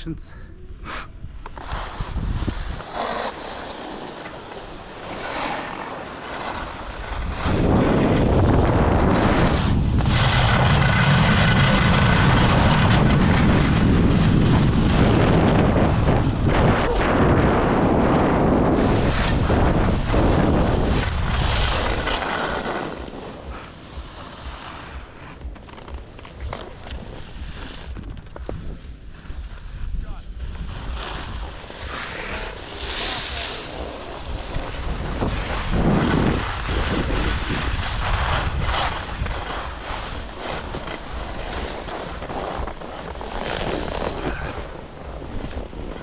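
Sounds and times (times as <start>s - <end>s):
wind buffeting microphone: 0.7s - 3.6s, 6.6s - 46.0s
skis scraping on snow: 1.4s - 46.0s.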